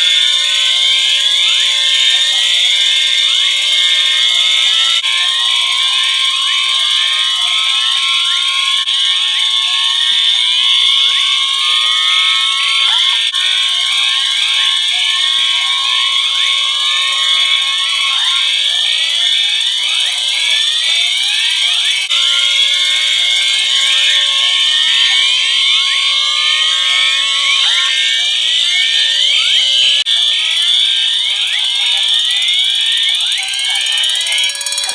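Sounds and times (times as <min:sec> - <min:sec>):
fire alarm horns and sirens: 0:00.0 - 0:34.9.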